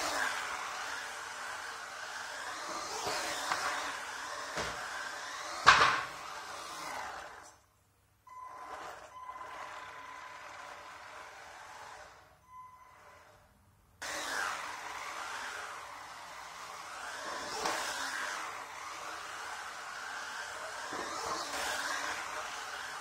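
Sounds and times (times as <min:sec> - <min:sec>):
rc car driving on concrete: 0:00.0 - 0:07.7, 0:08.3 - 0:23.0.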